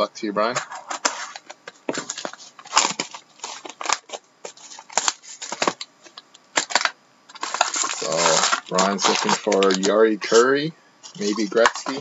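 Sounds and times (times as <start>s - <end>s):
wrapping and cardboard rustling: 0.4s - 10.5s, 11.1s - 12.0s.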